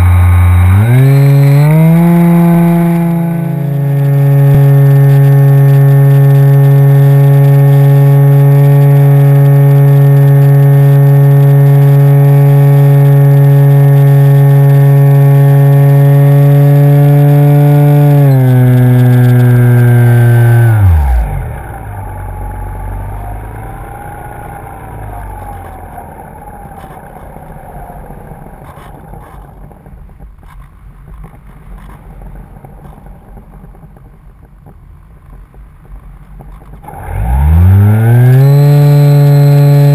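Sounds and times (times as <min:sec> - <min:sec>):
model plane motor and propeller: 0:00.0 - 0:34.1, 0:36.3 - 0:39.9.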